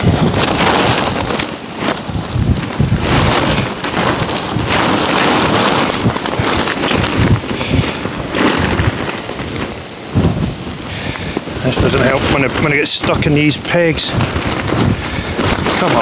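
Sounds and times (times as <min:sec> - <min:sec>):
gusty wind buffeting microphone: 0:00.0 - 0:16.0.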